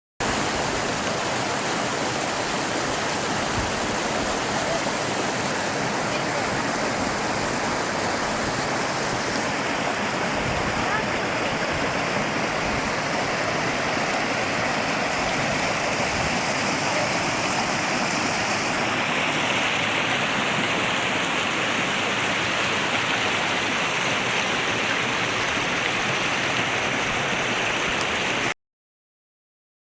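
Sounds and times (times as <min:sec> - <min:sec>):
waterfall pouring: 0:00.2 - 0:28.6.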